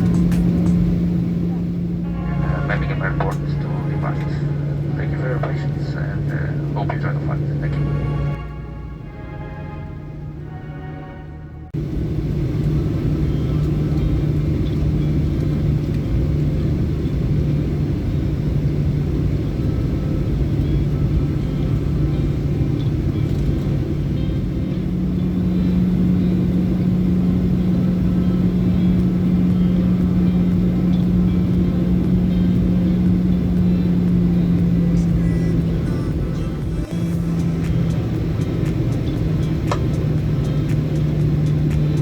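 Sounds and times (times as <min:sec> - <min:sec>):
jet engines rumbling in cabin: 0:00.0 - 0:42.0.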